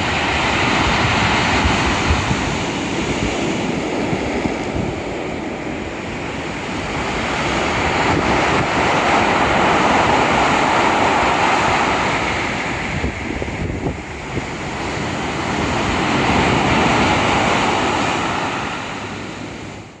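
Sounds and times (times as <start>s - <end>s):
sea surf breaking: 0.0s - 20.0s
wind buffeting microphone: 0.0s - 20.0s.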